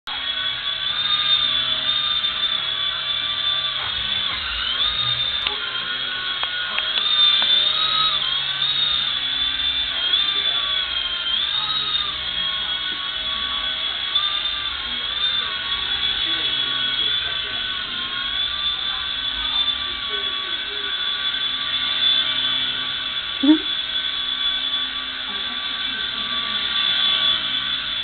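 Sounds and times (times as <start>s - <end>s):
toy helicopter motor whining: 0.1s - 28.0s.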